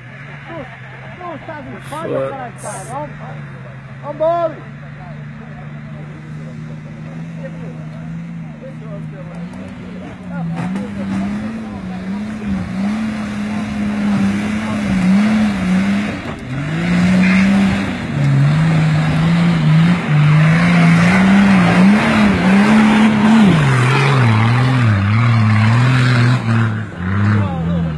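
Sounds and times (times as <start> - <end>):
off-road engine revving: 0.0 - 27.9.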